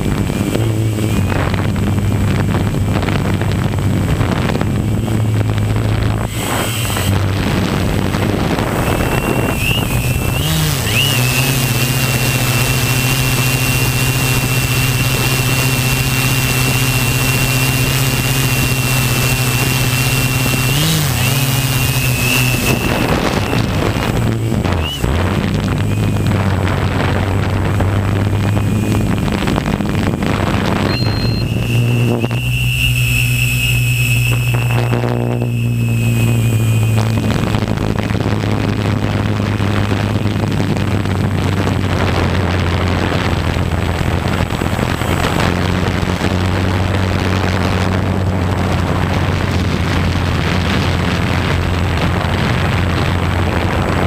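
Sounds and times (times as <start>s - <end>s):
drone motors humming with whine: 0.0s - 54.0s.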